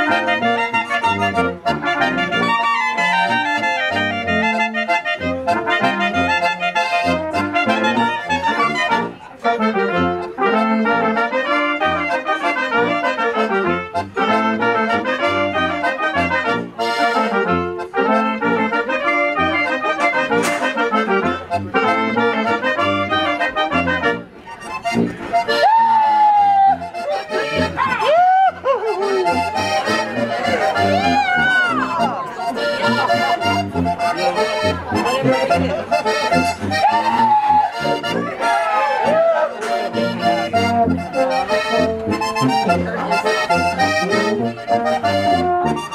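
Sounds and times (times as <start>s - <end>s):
tuba bass: 0.0s - 25.6s, 26.7s - 28.0s, 28.7s - 45.9s
oompah band playing: 0.0s - 45.9s.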